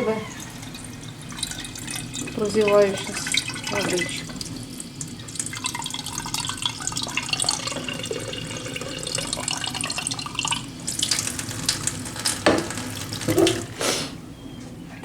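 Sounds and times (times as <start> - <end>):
tap water running into container: 0.0 - 13.9.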